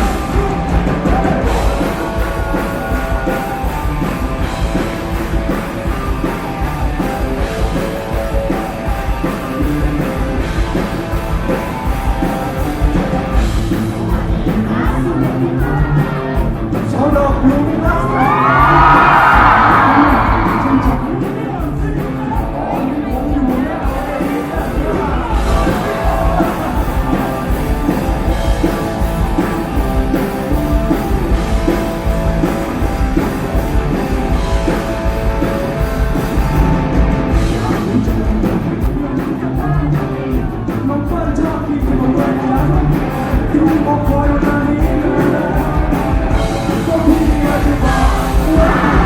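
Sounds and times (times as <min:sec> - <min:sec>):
person singing: 0:00.0 - 0:04.9, 0:05.5 - 0:31.1, 0:33.2 - 0:49.0
live rock band playing: 0:00.0 - 0:49.0.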